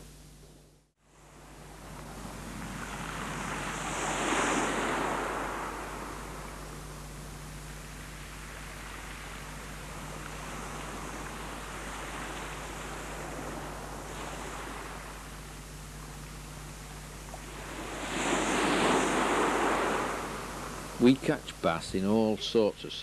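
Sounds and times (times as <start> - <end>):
low hum: 0.0 - 23.0
sea waves washing ashore: 1.1 - 23.0.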